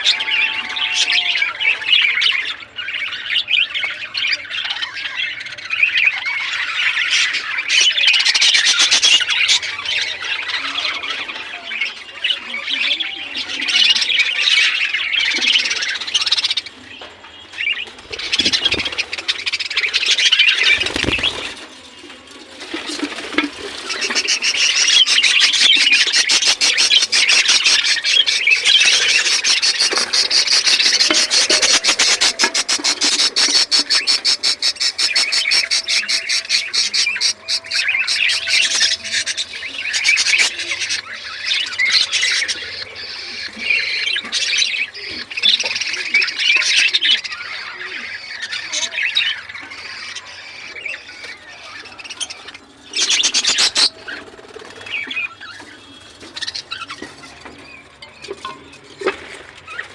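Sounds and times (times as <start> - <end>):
budgerigars chattering: 0.0 - 59.9.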